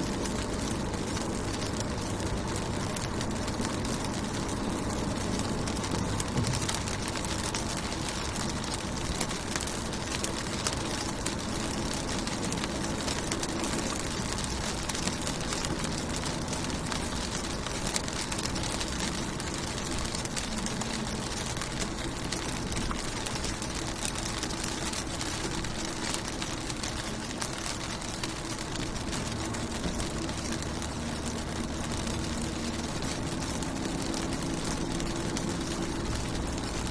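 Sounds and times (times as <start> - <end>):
rain on a car window: 0.0 - 36.9.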